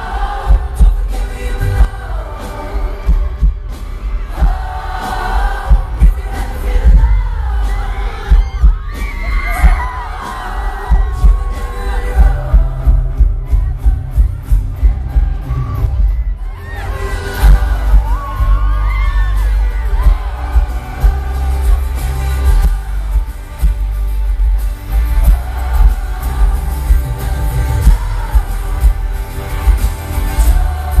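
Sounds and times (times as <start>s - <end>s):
man singing lead vocal: 0.0s - 24.4s, 25.0s - 31.0s
live pop rock band: 0.0s - 31.0s.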